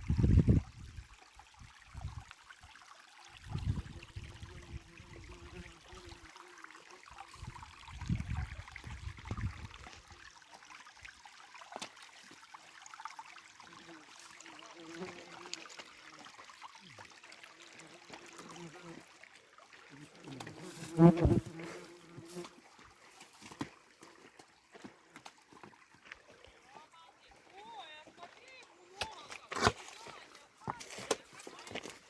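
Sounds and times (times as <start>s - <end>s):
mountain stream trickling: 0.0s - 32.0s.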